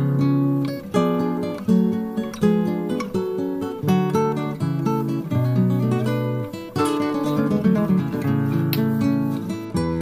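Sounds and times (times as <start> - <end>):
acoustic guitar piece: 0.0 - 10.0.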